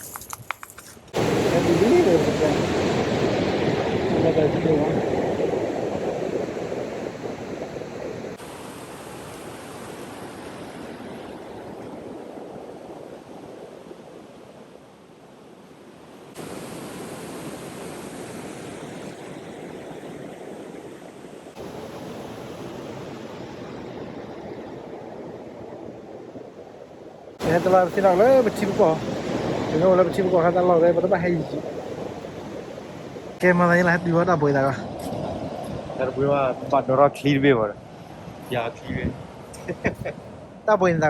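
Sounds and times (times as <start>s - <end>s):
flowing river water: 1.1s - 38.7s.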